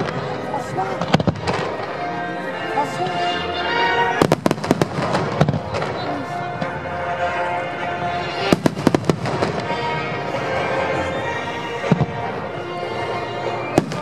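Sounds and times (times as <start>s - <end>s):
music playing: 0.0s - 14.0s.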